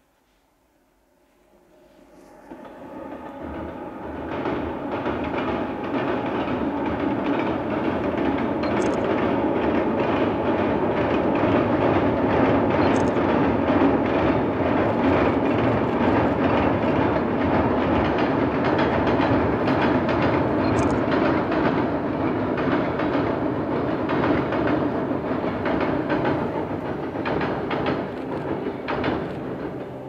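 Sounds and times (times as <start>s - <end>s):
train rumbling on viaduct: 1.0s - 30.0s
wheels clattering over rails: 2.6s - 30.0s.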